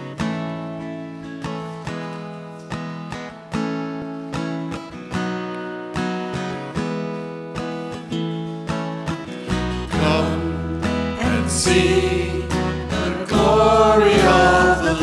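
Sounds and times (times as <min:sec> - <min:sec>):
acoustic guitars strumming chords: 0:00.0 - 0:15.0.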